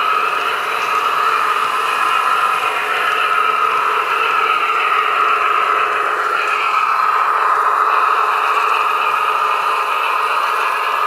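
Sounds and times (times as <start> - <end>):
diesel engine sound from small speakers: 0.0 - 11.0.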